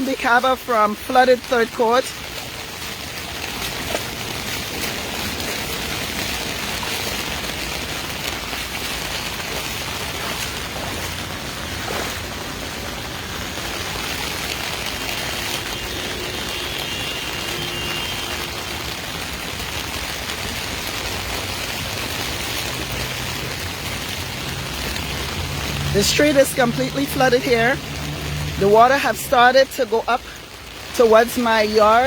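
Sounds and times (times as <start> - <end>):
rain falling on flooded street: 0.0 - 32.0.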